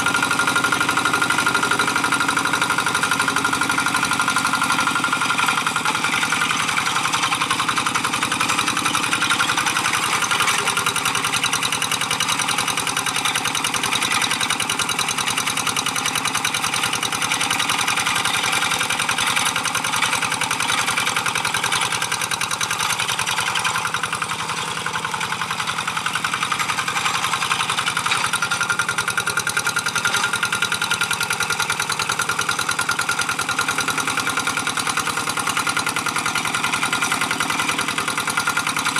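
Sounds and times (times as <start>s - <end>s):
hand tractor engine chugging: 0.0s - 38.9s.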